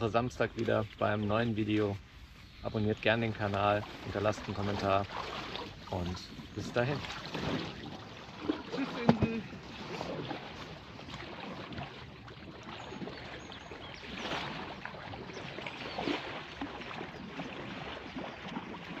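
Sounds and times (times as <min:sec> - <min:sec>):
paddle strokes splashing: 0:00.2 - 0:19.0
water trickling: 0:02.8 - 0:19.0.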